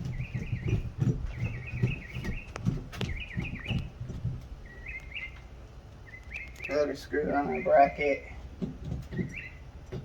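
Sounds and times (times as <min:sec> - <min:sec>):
songbird warbling chirps: 0:00.0 - 0:04.0, 0:04.6 - 0:08.4, 0:09.1 - 0:09.7.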